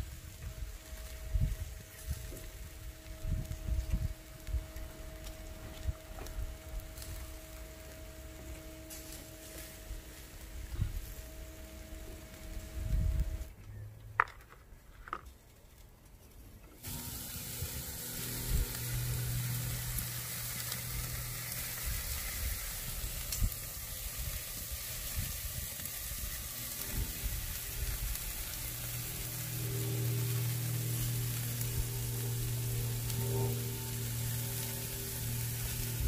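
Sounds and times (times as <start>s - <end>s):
steak sizzling on a grill: 0.0s - 13.5s, 16.8s - 36.0s.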